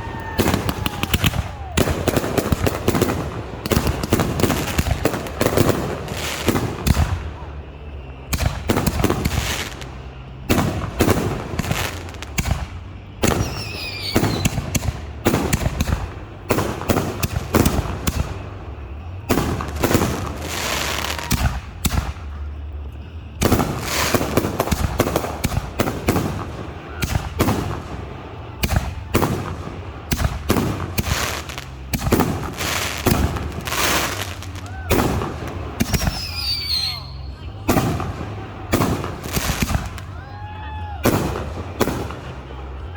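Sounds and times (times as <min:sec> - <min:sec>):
firework whistle gliding: 0:00.0 - 0:42.6
firework bangs: 0:00.0 - 0:42.9
firework crackle: 0:00.0 - 0:42.9.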